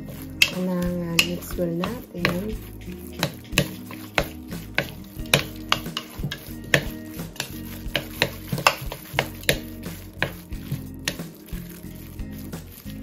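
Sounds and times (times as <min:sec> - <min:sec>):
utensils clinking against ceramic bowl: 0:00.0 - 0:11.5.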